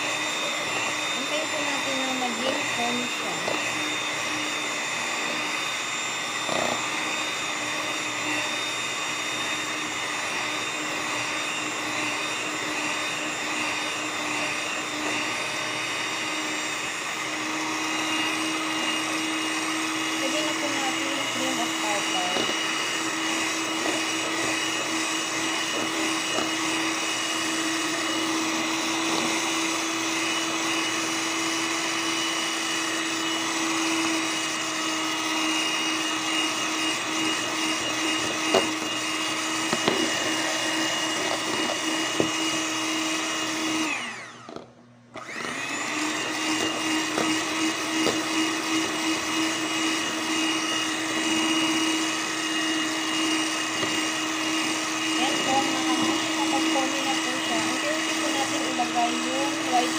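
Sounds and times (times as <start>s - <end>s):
electric hand mixer running: 0.0s - 59.9s.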